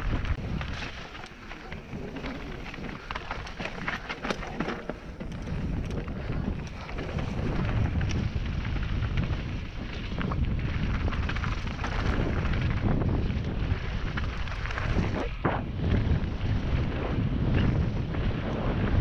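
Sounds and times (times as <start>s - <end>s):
bike rattling: 0.0s - 19.0s
wind rushing over microphone: 0.0s - 19.0s
tyres crunching over loose rock: 0.2s - 15.4s.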